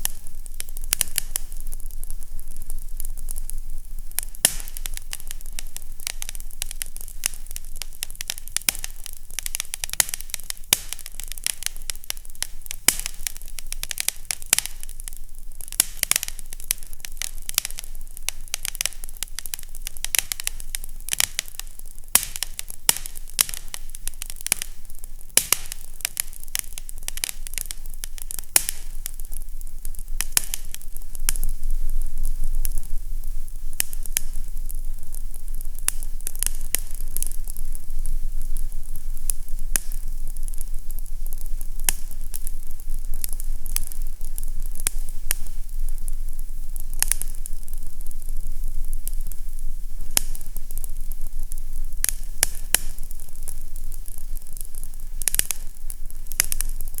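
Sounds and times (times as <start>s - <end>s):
fireplace crackling: 0.0s - 57.0s.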